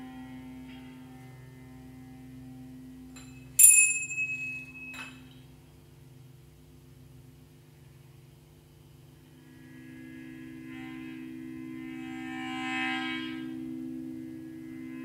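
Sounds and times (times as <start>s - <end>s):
electric guitar drone: 0.0s - 3.6s, 4.7s - 15.0s
amplifier hum: 0.0s - 15.0s.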